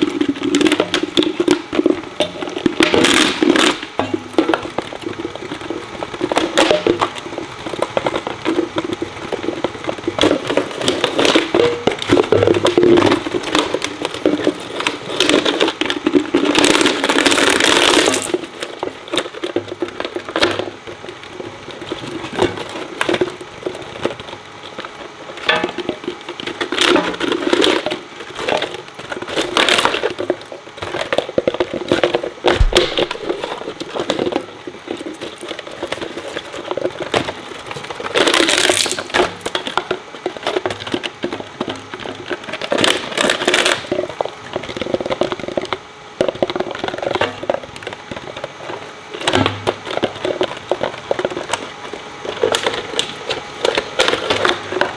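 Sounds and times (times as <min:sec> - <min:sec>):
plastic cracking and snapping: 0:00.0 - 0:54.9
shredder motor hum: 0:00.0 - 0:54.9.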